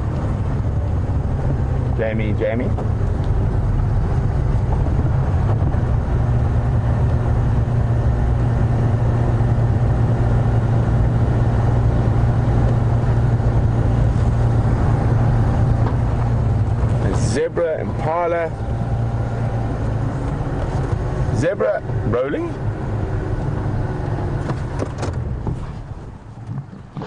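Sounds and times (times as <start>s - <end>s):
vehicle engine driving: 0.0s - 27.0s.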